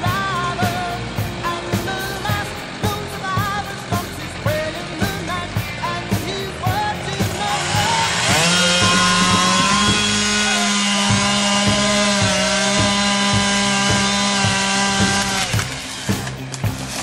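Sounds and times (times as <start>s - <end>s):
background music with beat: 0.0s - 17.0s
chainsaw revving: 0.0s - 17.0s.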